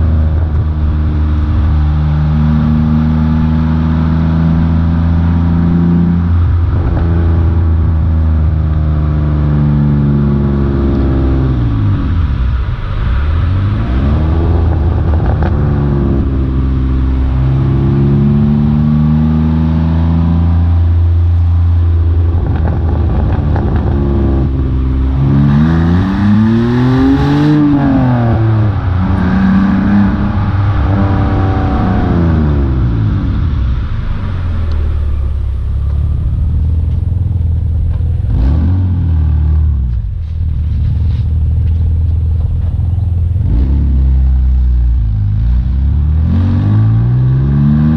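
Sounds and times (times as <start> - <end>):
car exhaust revving: 0.0 - 47.9.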